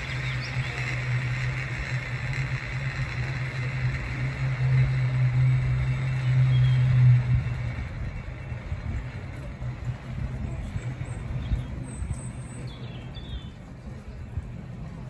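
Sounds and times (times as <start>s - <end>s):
railway car rumbling on track: 0.0s - 15.0s.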